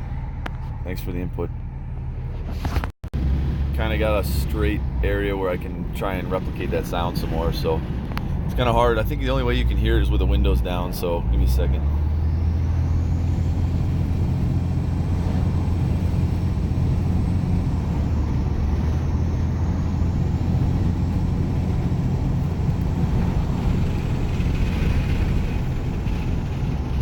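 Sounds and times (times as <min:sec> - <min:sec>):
low engine and road rumble: 0:00.0 - 0:27.0
heavy wind noise: 0:02.3 - 0:27.0.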